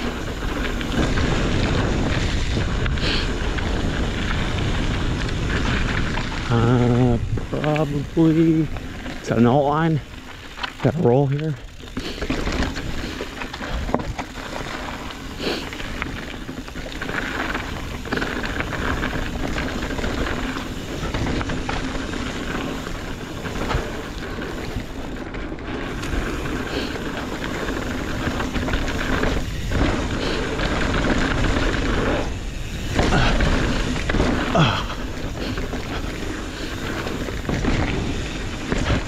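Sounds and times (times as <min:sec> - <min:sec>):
wind rush on microphone: 0:00.0 - 0:10.2, 0:12.3 - 0:39.0
bike rattles and knocks: 0:00.0 - 0:39.0
tyres rolling on dirt: 0:00.0 - 0:39.0.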